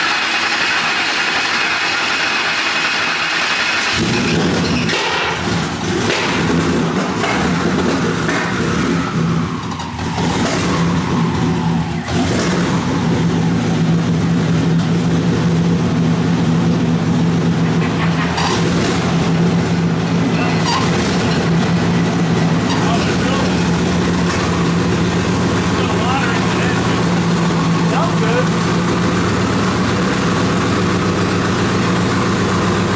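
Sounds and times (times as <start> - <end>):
engine idling: 0.0 - 32.9
high turbo whine: 0.0 - 32.9.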